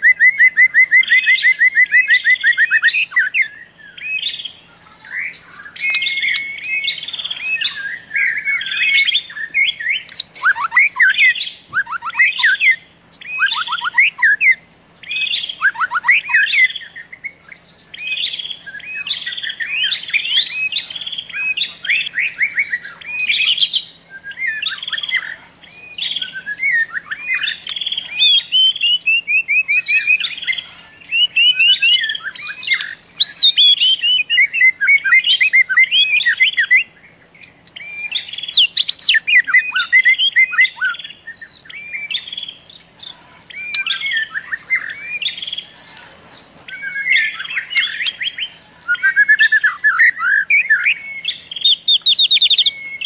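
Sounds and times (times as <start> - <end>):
songbirds chirping and singing: 0.0 - 53.0.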